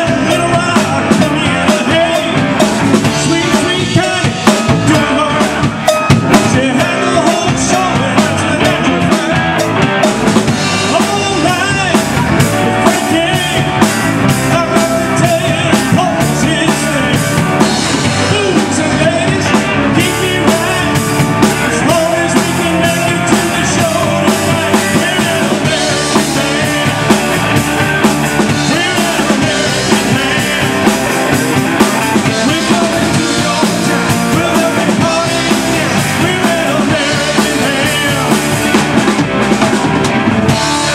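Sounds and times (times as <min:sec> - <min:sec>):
person singing: 0:00.0 - 0:09.9, 0:10.5 - 0:39.2
live rock band playing: 0:00.0 - 0:40.9.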